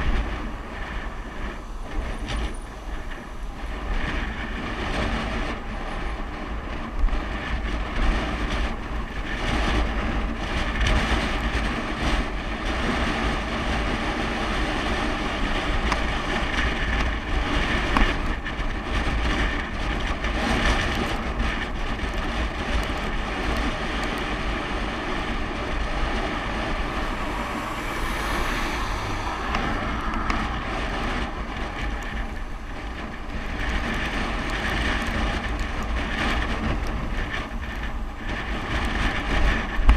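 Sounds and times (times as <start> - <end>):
bike rattles and clicks: 0.0 - 27.4, 29.5 - 39.9
bicycle rumble on road: 0.0 - 39.9
wind buffeting microphone: 0.0 - 39.9.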